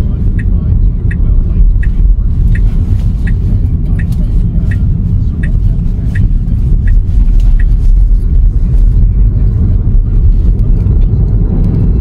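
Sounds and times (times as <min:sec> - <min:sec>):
road and tyre rumble in car: 0:00.0 - 0:12.0
turn signal tick: 0:00.0 - 0:12.0.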